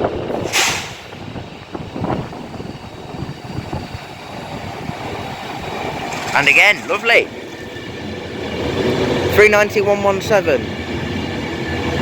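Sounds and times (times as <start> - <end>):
electric train running: 0.0 - 12.0.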